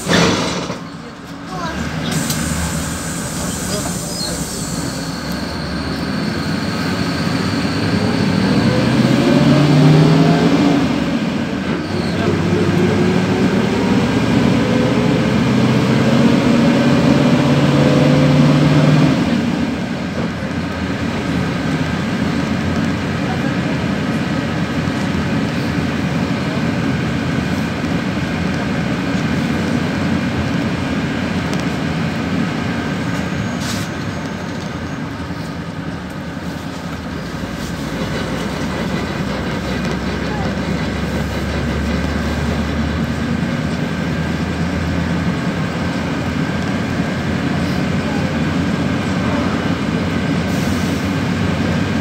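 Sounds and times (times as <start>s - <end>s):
bus engine: 0.0s - 52.0s
tyre and road noise: 0.0s - 52.0s.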